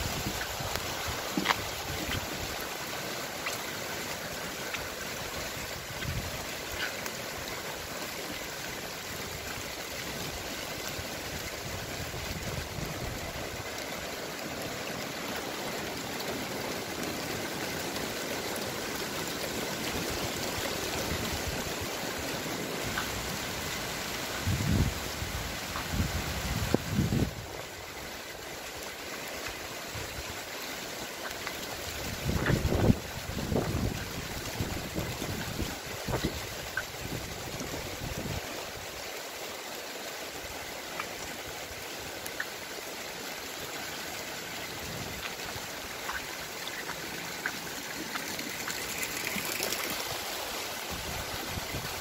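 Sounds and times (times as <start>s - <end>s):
rain falling on foliage: 0.0s - 52.0s.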